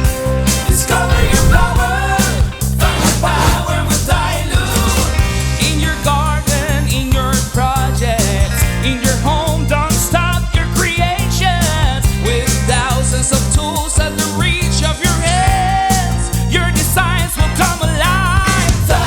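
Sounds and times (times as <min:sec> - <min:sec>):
person singing: 0:00.0 - 0:19.0
rock music: 0:00.0 - 0:19.0.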